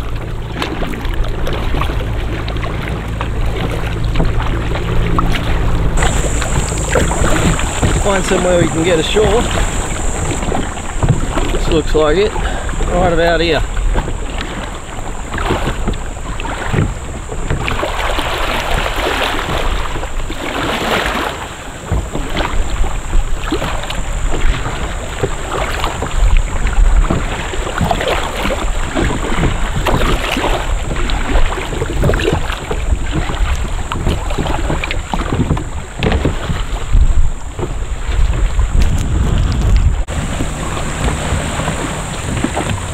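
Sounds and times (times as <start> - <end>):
water slapping against kayak hull: 0.0 - 42.9
wind rumbling on microphone: 0.0 - 42.9.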